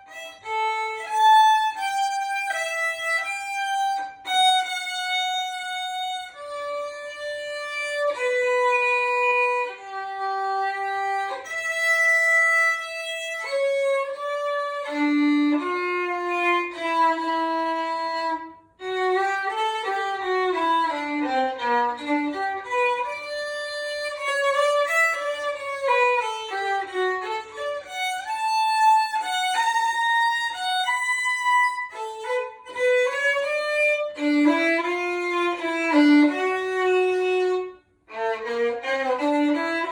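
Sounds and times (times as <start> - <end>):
solo violin melody: 0.0 - 39.9.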